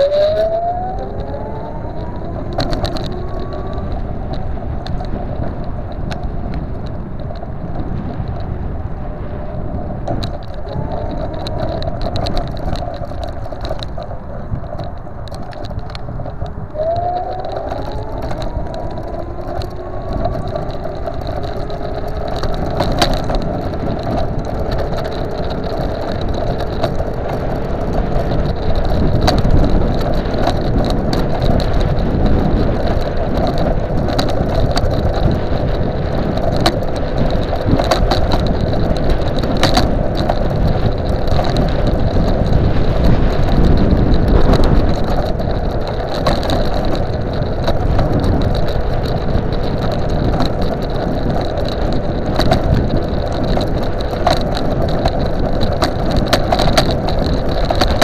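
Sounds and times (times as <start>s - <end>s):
small rattling clicks: 0.0s - 8.5s, 10.0s - 58.0s
road and wind noise: 0.0s - 58.0s.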